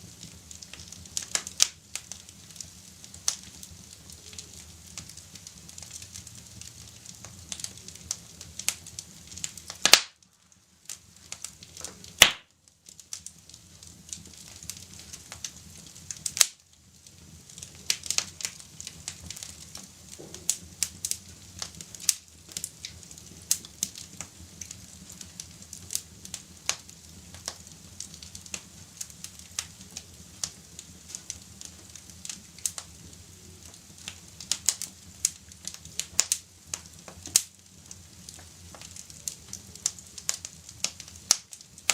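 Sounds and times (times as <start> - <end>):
wood fire crackling: 0.0 - 41.9
loud fire pops: 0.2 - 10.3, 10.9 - 12.5, 17.5 - 41.9.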